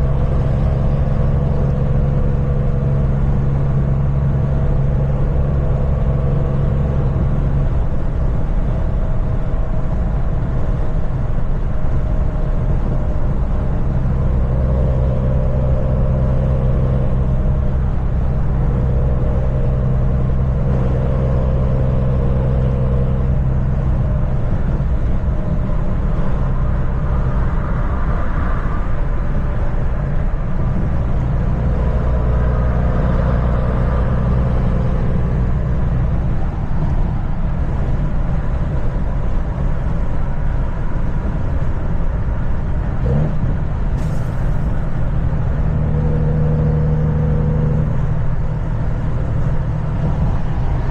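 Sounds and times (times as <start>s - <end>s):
road and tyre noise: 0.0s - 50.9s
truck diesel engine running: 0.0s - 50.9s.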